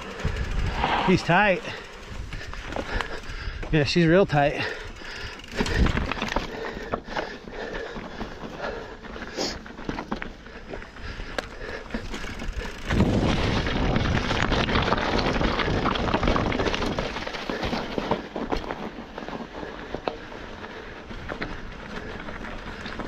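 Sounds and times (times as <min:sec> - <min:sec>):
bike rattling clicks: 0:00.0 - 0:23.0
bike tyres crunching on dirt: 0:00.0 - 0:23.0.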